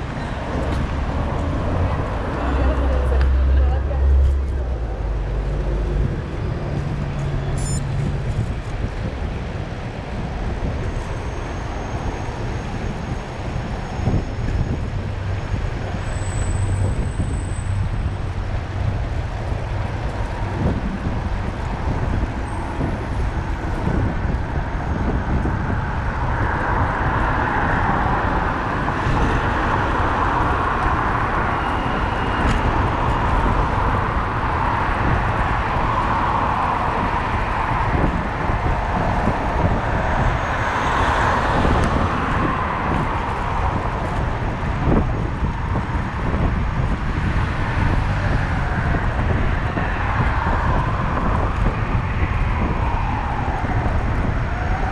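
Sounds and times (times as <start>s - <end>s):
bicycle riding noise: 0.0s - 54.9s
city traffic rushing: 0.0s - 54.9s.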